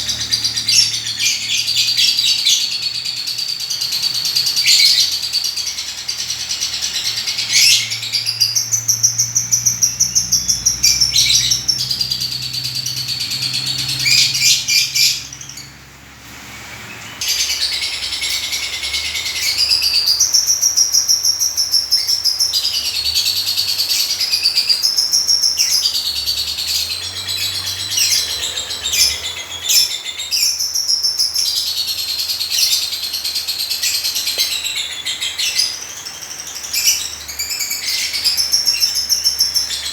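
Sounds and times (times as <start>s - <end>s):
lovebird chirping and chattering: 0.0s - 15.9s, 16.7s - 39.9s.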